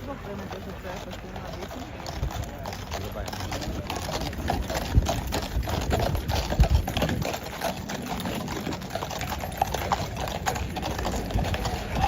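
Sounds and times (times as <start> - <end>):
hooves clattering on pavement: 0.0 - 12.0.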